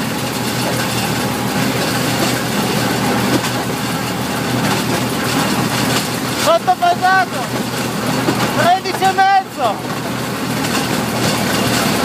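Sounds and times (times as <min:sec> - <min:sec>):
tractor and flail mulcher din: 0:00.0 - 0:12.0.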